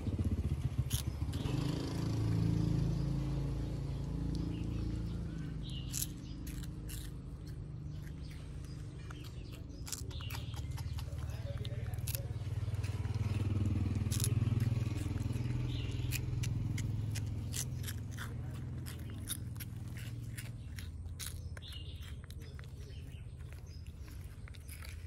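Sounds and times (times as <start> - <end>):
low steady rumble: 0.0 - 25.0
monkey chewing with wet smacking: 4.3 - 25.0.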